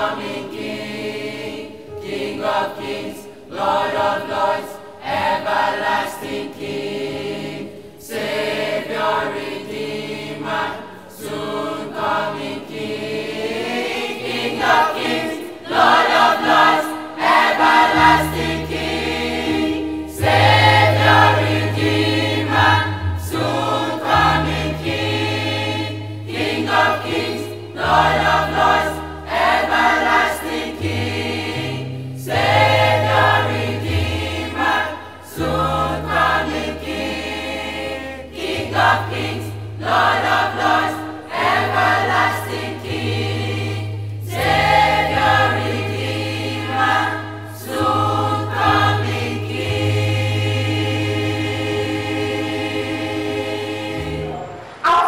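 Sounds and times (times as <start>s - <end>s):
mixed choir singing: 0.0s - 55.0s
low held accompaniment notes: 5.2s - 54.6s.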